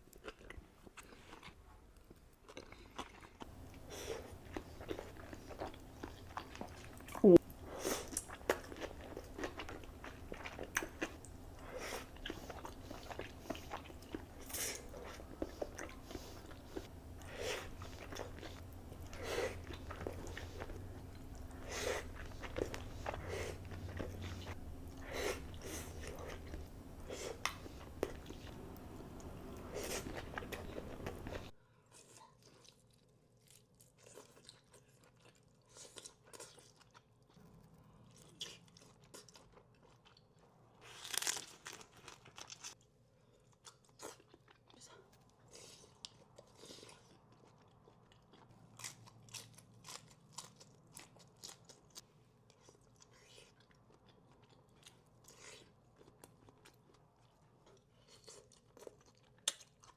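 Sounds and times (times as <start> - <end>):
chewing with crunches: 0.0 - 59.9.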